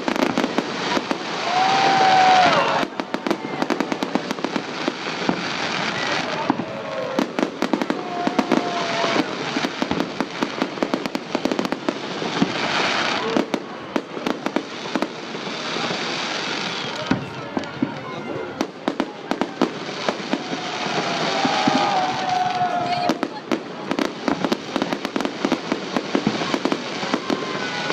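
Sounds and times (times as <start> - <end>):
firework whistling: 0.0 - 27.9
fireworks crackling and popping: 0.0 - 27.9.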